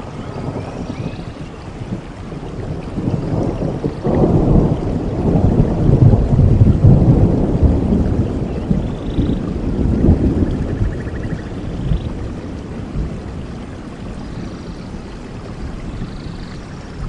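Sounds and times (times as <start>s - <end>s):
rolling thunder: 0.0s - 17.0s
steady rainfall: 0.0s - 17.0s.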